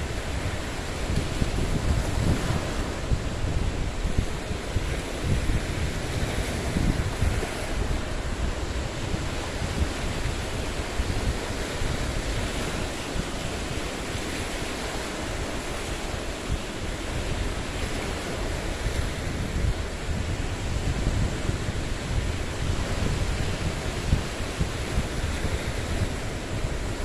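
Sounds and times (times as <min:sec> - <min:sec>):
waves washing against boulders: 0:00.0 - 0:27.0
wind noise on microphone: 0:00.0 - 0:27.0.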